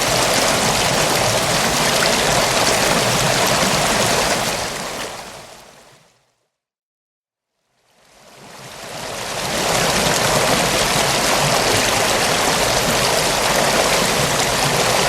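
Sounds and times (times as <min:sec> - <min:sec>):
flowing river water: 0:00.0 - 0:06.0, 0:07.9 - 0:15.0.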